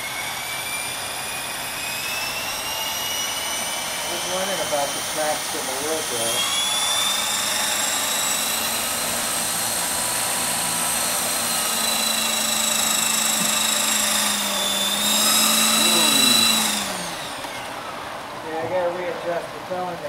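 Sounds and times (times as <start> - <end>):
rc helicopter motor whine: 0.0 - 20.0
rotor drone: 0.0 - 20.0.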